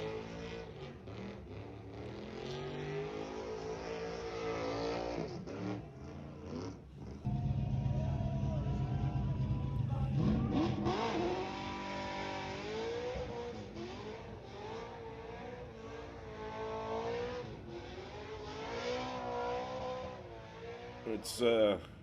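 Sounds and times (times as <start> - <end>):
car engine revving: 0.0 - 21.3.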